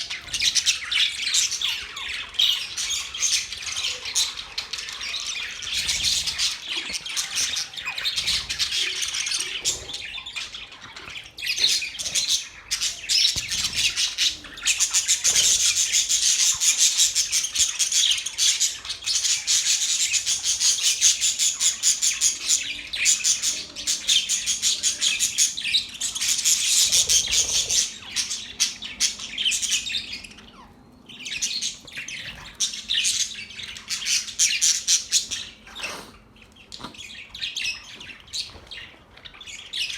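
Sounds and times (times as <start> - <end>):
bird squawks: 0.0 - 38.6
budgerigars chirping: 0.0 - 39.9.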